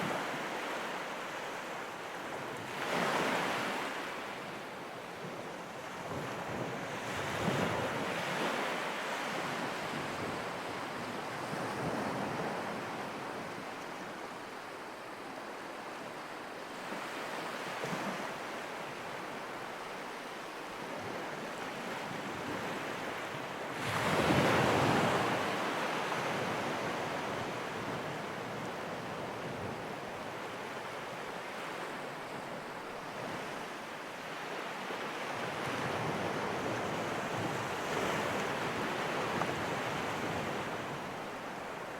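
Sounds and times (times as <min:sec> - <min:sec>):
ocean surf washing ashore: 0:00.0 - 0:41.9.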